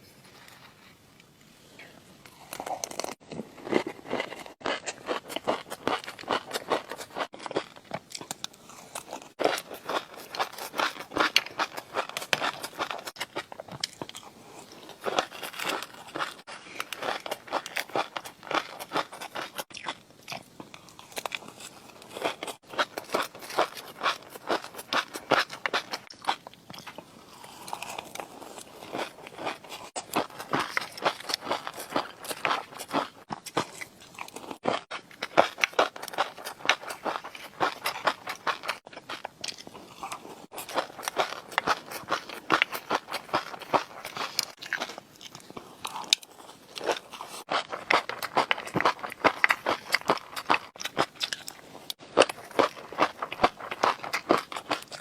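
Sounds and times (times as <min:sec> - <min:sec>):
crunchy food chewing: 0:02.2 - 0:55.0.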